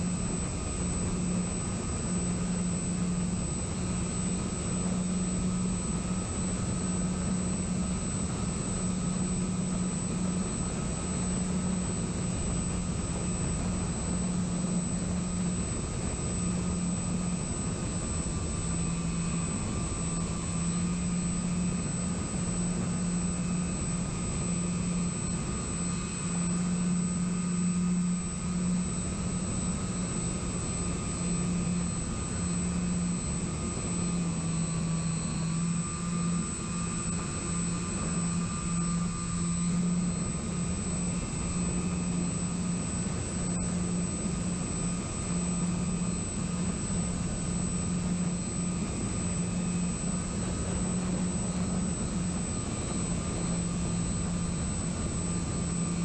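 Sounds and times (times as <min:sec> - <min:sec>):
high motor whine: 0:00.0 - 0:56.0
model plane motors droning: 0:00.0 - 0:56.0.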